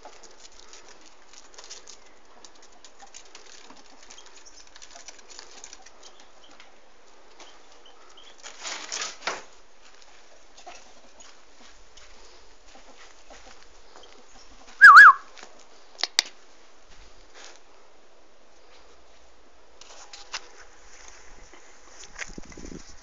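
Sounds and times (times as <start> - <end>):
scrabbling rustle: 0.0 - 17.7, 18.6 - 23.0.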